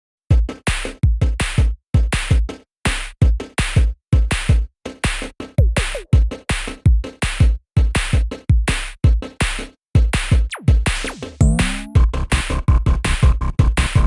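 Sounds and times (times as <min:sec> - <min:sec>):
electronic music with drum-machine beat: 0:00.3 - 0:14.0.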